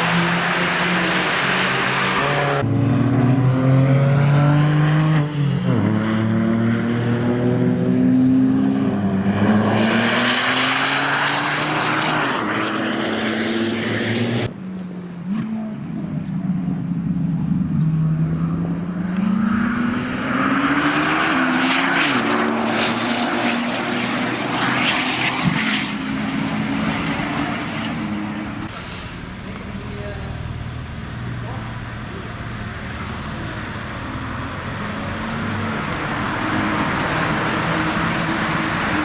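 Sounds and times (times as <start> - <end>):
loud car engine accelerating: 0.0 - 14.6, 15.2 - 39.0.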